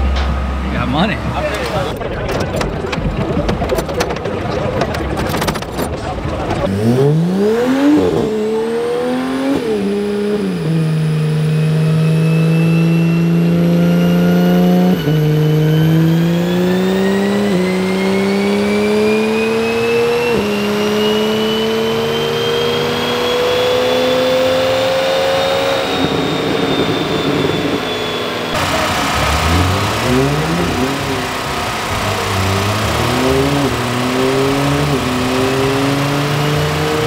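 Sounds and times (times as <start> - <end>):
car engine revving through gears: 0.0 - 37.0
tyre and dyno roller whine: 0.0 - 37.0.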